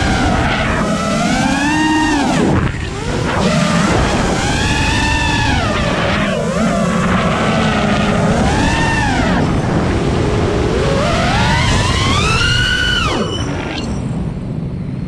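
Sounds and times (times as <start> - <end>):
drone motors and propellers whining: 0.0 - 15.0
rough rushing air noise: 0.0 - 15.0.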